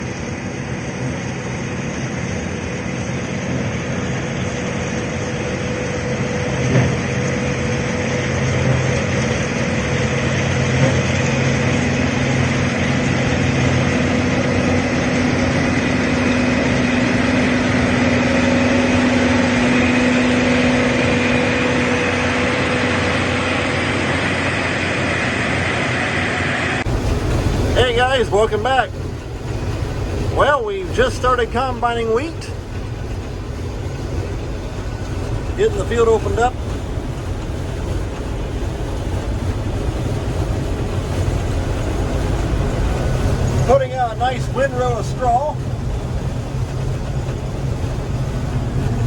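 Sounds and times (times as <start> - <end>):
combine harvester engine droning: 0.0 - 49.0.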